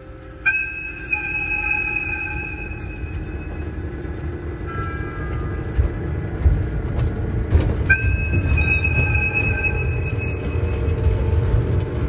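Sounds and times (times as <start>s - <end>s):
mini train low rumble: 0.0s - 12.0s
steady high whine: 0.0s - 12.0s
wheels knocking on rails: 1.6s - 12.0s.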